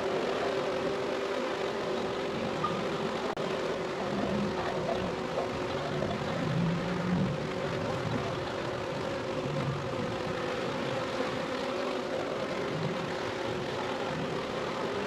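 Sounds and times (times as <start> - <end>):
bee swarm buzzing: 0.0 - 15.0.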